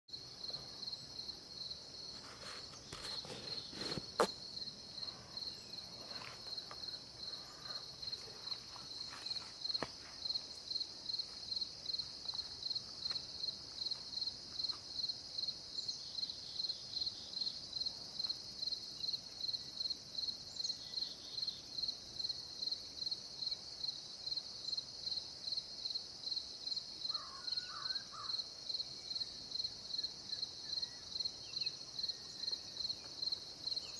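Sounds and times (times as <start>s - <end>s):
insects chirping: 0.1s - 33.9s.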